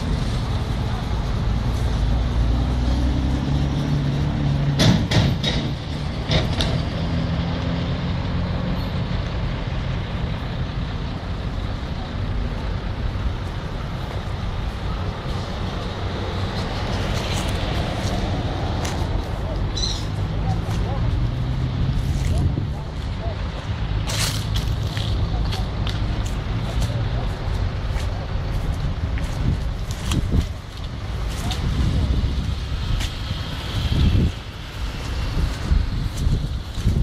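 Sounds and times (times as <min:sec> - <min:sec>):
diesel truck engines droning: 0:00.0 - 0:37.0.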